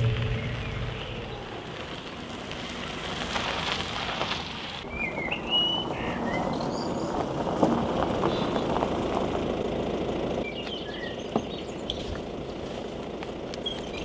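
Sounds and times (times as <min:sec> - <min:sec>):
outdoor air: 0:00.0 - 0:14.0.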